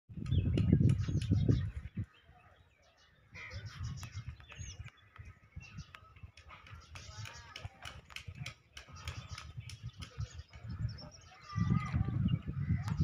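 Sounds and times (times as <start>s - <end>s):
birds chirping and calling: 0.1s - 13.0s.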